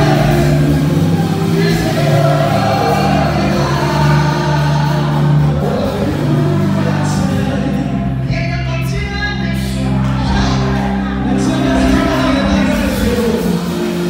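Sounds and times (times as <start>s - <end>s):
group of voices singing: 0.0s - 8.4s, 9.6s - 14.0s
sustained bass notes: 0.0s - 14.0s.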